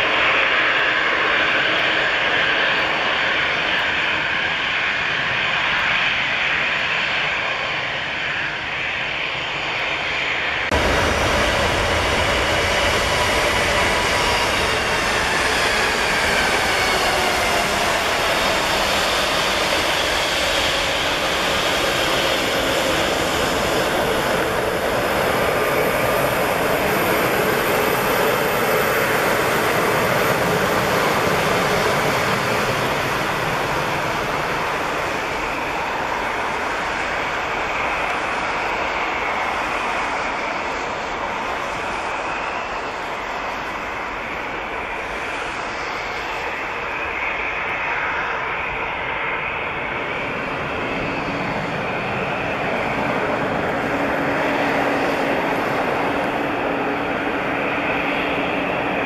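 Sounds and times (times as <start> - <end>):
jet engines at taxi power: 0.0 - 59.0.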